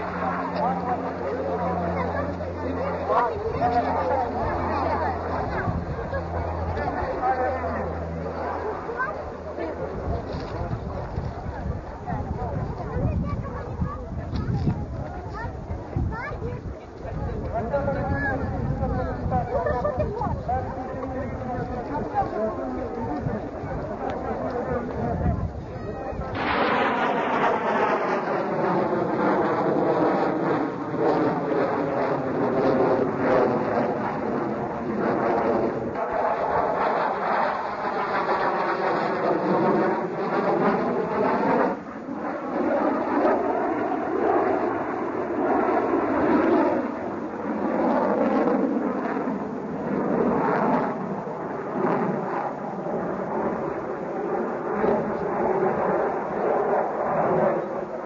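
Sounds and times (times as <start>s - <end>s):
jet fighter flying overhead: 0.0s - 58.0s.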